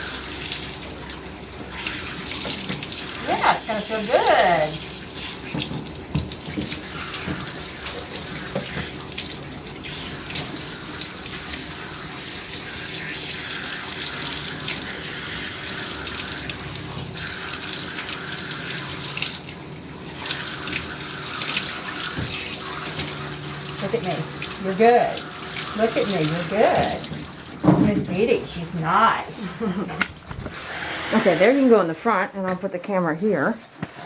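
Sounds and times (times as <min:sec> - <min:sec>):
water splashing in tub: 0:00.0 - 0:29.3
water spraying on dog's coat: 0:00.0 - 0:29.6.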